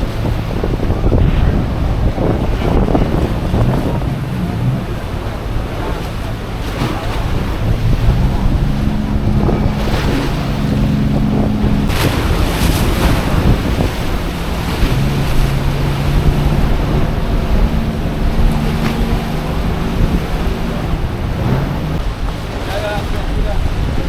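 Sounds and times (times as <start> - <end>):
boat motor humming: 0.0 - 24.0
choppy water: 0.0 - 24.0
wind buffeting microphone: 0.0 - 24.0.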